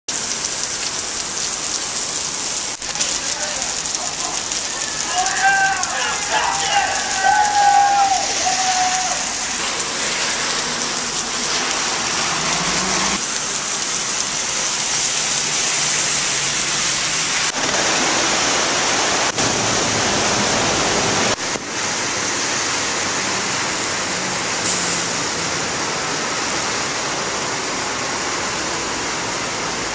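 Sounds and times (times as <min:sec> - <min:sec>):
car tyres ploughing through water: 0:00.1 - 0:29.9
floodwater rushing: 0:00.1 - 0:29.9
heavy rain pouring: 0:00.1 - 0:29.9
water surging from storm drain: 0:00.1 - 0:29.9.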